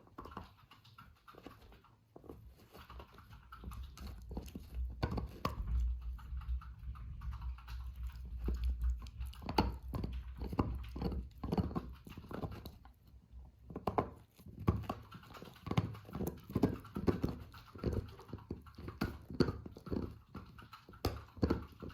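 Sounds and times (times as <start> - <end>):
puppy gnawing chew toy: 0.0 - 21.9.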